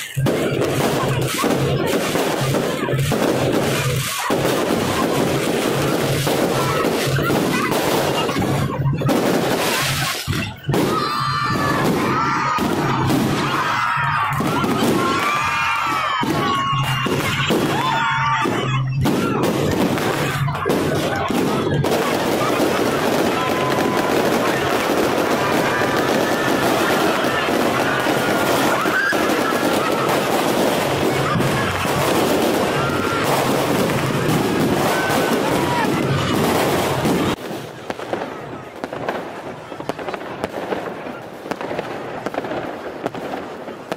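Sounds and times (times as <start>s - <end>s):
crowd shouting and screaming: 0.0s - 43.9s
fireworks bursting and crackling: 0.0s - 43.9s.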